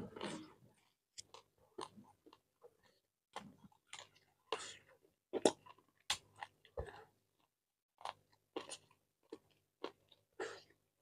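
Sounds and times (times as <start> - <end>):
man chewing food: 0.0 - 10.9.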